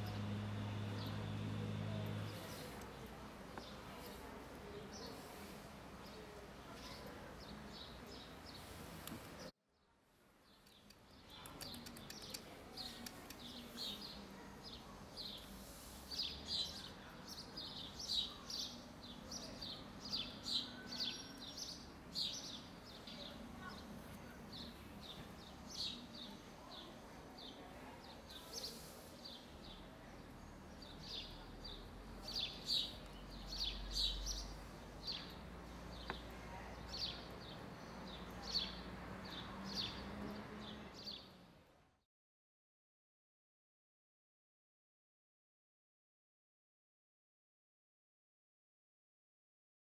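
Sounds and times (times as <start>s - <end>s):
birds chirping: 0.0s - 9.5s, 10.4s - 41.4s.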